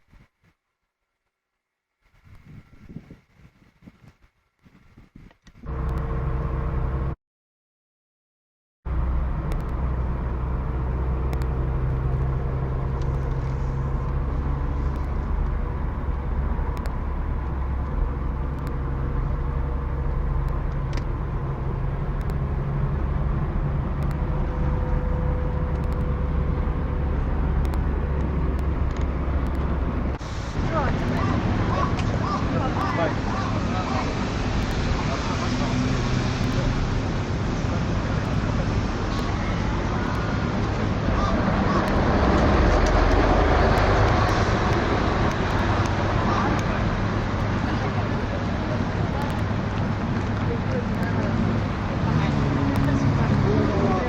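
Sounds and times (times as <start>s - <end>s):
car engine and road noise: 0.0s - 7.2s, 8.9s - 54.0s.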